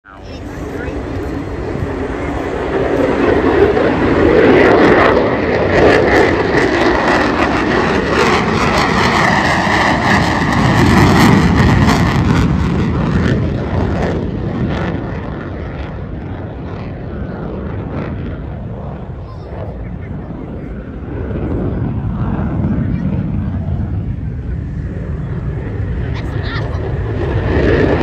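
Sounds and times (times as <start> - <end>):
fighter jet passing low: 0.1 - 28.0.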